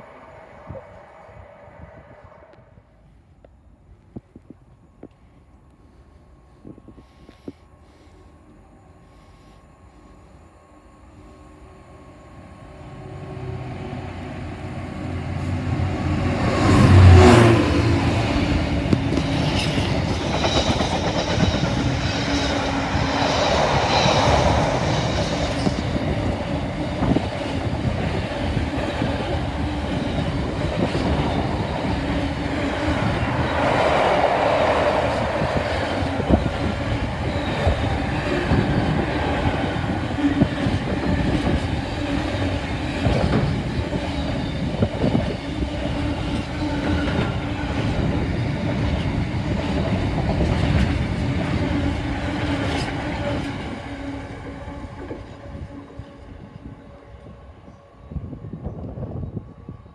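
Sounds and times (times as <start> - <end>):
diesel locomotive engine passing: 0.0 - 3.2, 5.3 - 59.9.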